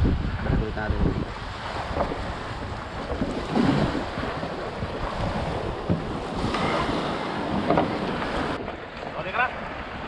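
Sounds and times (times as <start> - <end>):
wind buffeting microphone: 0.0 - 8.9
small waves lapping on sand: 0.0 - 10.0.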